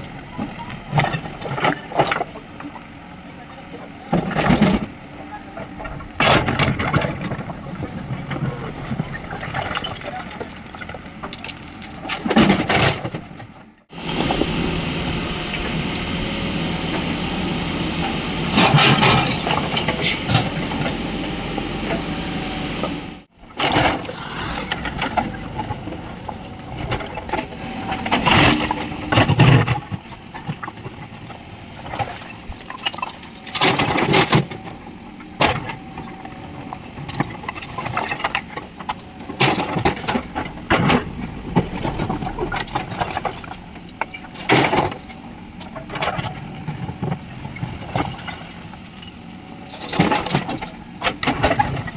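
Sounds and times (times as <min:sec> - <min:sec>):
diesel engine running under load: 0:00.0 - 0:51.9.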